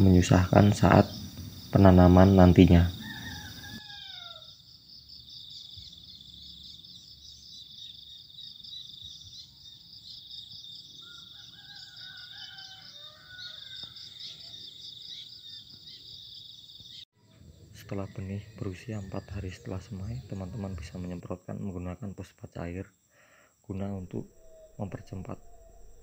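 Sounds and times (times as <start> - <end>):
insects chirping high trill: 0.0 - 17.1, 17.8 - 26.0
faint wavering insect calls: 0.0 - 26.0.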